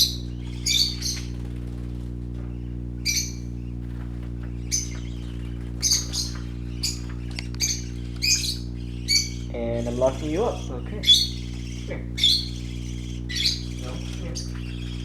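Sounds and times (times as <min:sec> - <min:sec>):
parakeets chirping: 0:00.0 - 0:15.0
steady low hum: 0:00.0 - 0:15.0.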